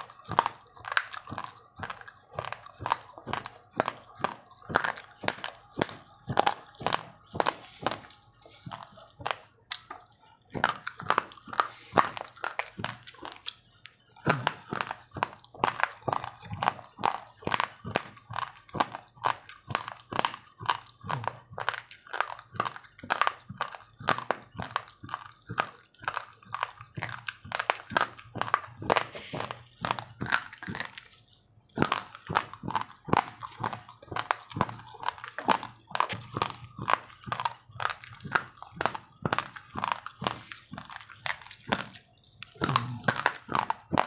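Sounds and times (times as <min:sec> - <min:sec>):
person chewing hard crunches: 0:00.0 - 0:44.0.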